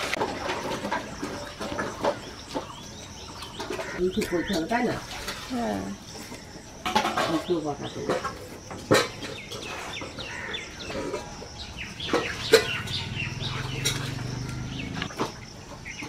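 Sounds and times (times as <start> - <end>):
small birds chirping: 1.1 - 16.0.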